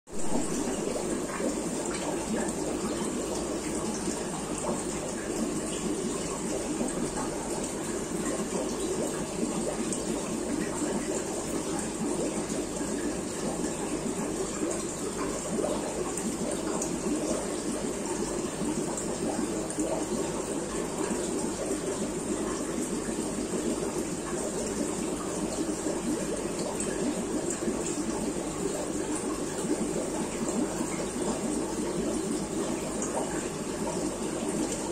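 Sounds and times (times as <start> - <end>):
aquarium water splashing and bubbling: 0.1 - 34.9.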